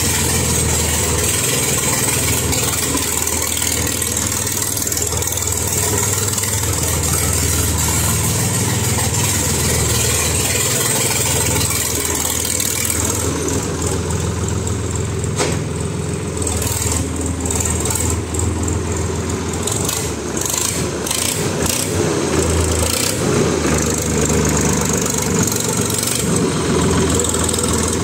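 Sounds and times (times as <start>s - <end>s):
tractor diesel engine loud exhaust: 0.0s - 28.0s.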